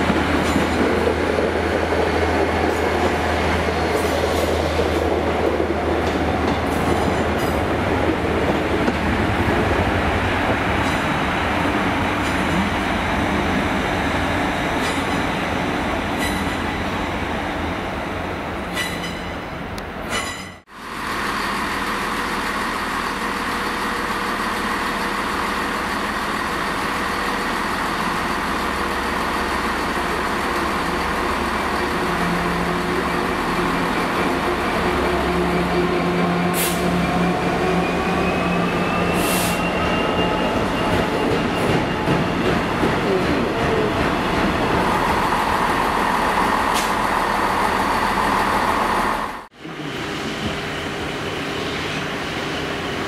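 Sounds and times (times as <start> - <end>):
diesel locomotive engine rumble: 0.0 - 53.0
train running past on rails: 0.0 - 53.0.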